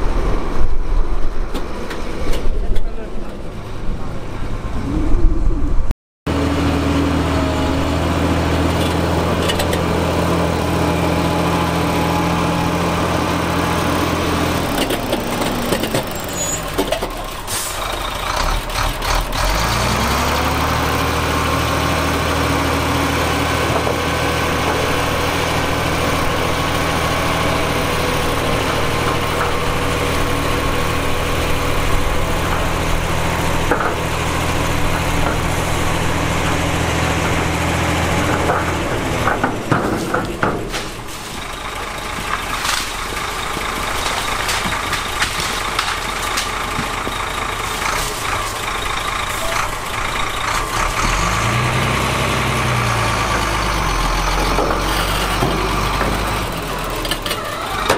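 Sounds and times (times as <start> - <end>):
heavy diesel engine running: 6.3 - 57.9.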